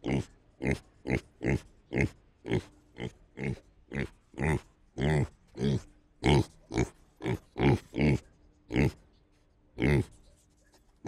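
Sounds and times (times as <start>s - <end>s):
pig grunting: 0.0s - 9.0s, 9.8s - 10.1s.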